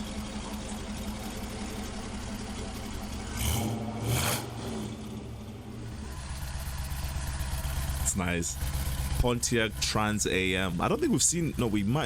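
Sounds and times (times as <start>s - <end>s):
car engine idling: 0.0s - 12.0s
car engine revving: 0.7s - 11.8s.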